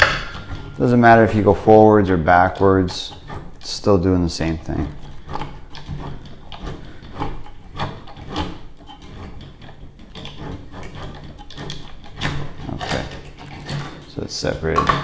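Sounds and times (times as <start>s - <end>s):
tubing cutter scraping copper pipe: 0.0s - 15.0s.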